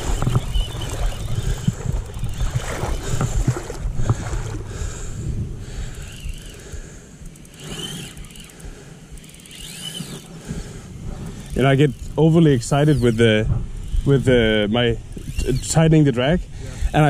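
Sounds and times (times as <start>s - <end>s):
wind buffeting microphone: 0.0s - 7.0s, 9.5s - 17.0s.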